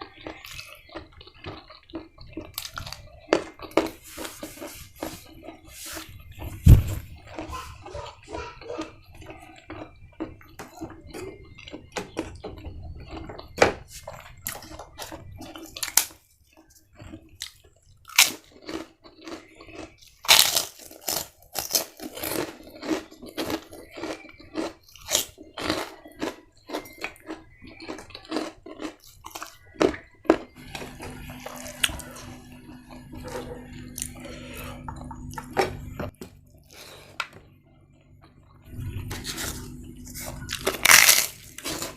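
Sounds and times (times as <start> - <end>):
crunchy food chewing: 0.0 - 41.9.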